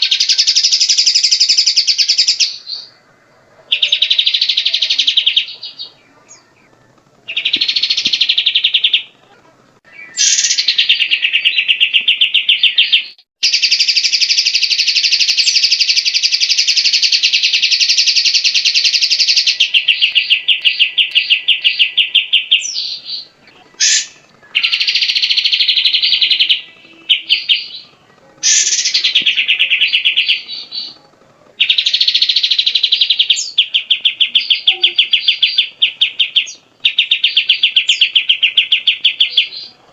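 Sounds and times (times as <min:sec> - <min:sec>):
bulbul singing rapid high trills: 0:00.0 - 0:39.9.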